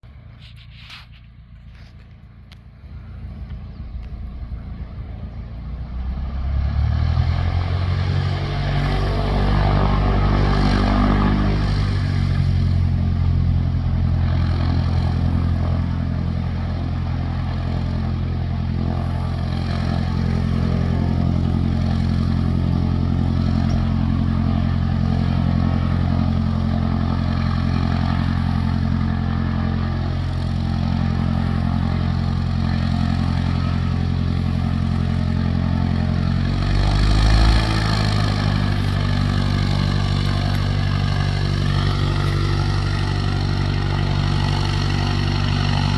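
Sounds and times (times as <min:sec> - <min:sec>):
light aircraft engine throttling up: 0:00.0 - 0:45.9.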